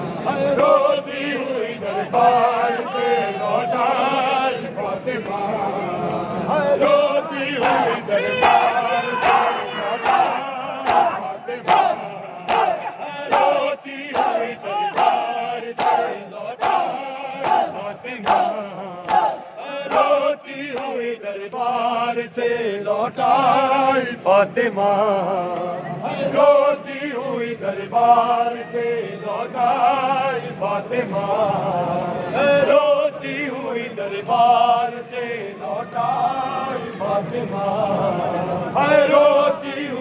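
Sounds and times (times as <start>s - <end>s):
men chanting in unison: 0.0s - 40.0s.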